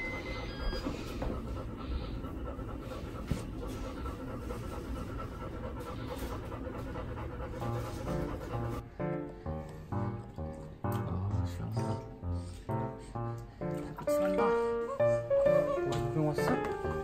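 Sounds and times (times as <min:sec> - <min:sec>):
dog panting: 0:00.0 - 0:10.6, 0:11.4 - 0:17.0.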